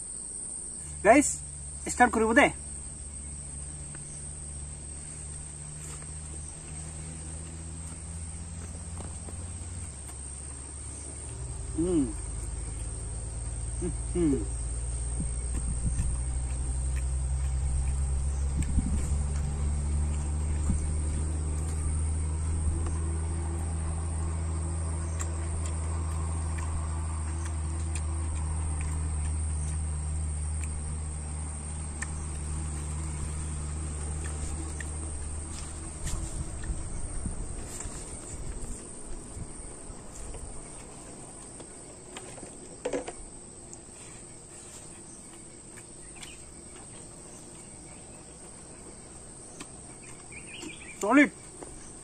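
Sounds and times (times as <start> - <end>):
crickets chirping: 0.0 - 52.0
steady low hum: 0.0 - 52.0.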